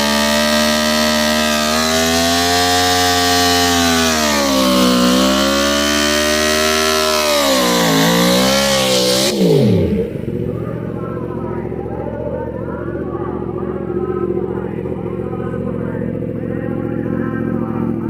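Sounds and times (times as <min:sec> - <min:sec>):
motorcycle engine revving high: 0:00.0 - 0:18.0.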